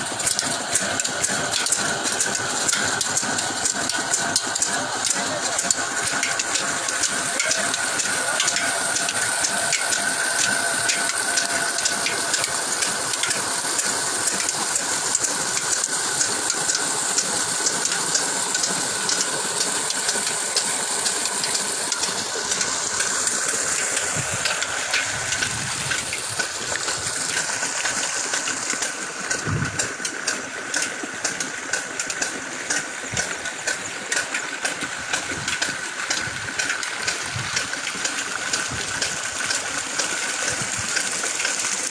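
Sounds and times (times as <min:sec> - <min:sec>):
diesel engine running: 0:00.0 - 0:41.9
water gushing into tank: 0:00.0 - 0:41.9.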